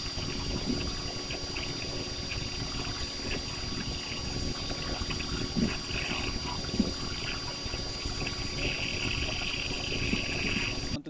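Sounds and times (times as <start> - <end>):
hiss: 0.0 - 11.0
volcano eruption rumble: 0.0 - 11.0.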